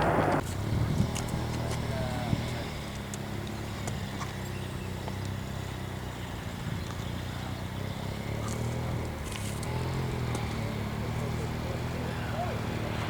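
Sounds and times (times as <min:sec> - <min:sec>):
aircraft engines humming: 0:00.0 - 0:13.0.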